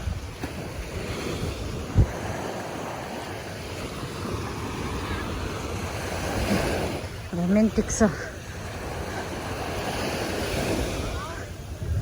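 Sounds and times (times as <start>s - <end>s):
ocean surf washing onto beach: 0.0s - 12.0s
wind on microphone: 0.0s - 12.0s.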